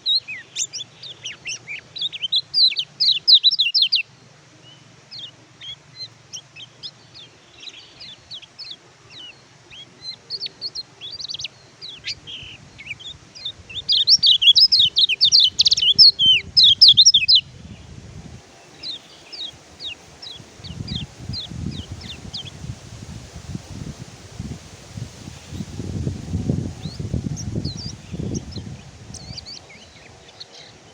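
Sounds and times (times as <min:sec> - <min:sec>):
bird twittering song: 0:00.0 - 0:04.1, 0:04.7 - 0:24.0, 0:25.0 - 0:30.9.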